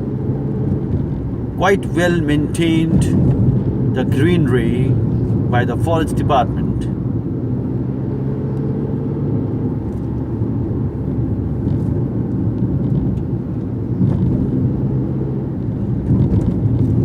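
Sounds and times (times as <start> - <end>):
engine and tyre drone: 0.0 - 17.0.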